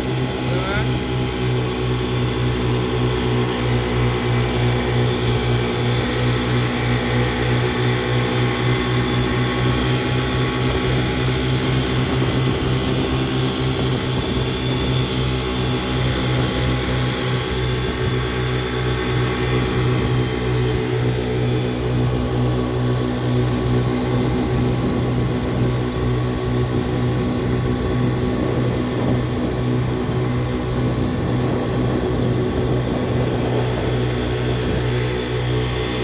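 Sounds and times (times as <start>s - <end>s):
motorboat engine drone: 0.0s - 36.0s.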